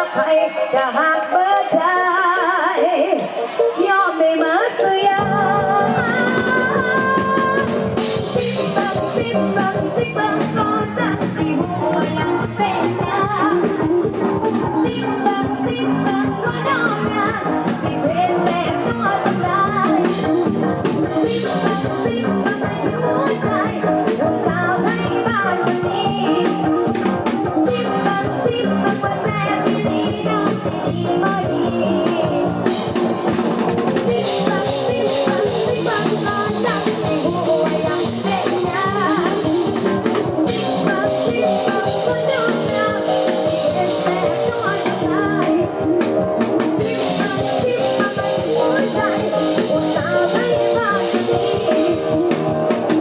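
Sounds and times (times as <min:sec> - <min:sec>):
live band dance music: 0:00.0 - 0:53.0.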